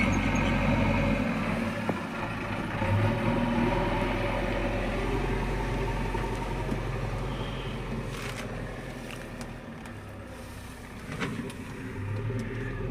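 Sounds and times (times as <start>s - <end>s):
diesel engine humming: 0.0s - 12.9s.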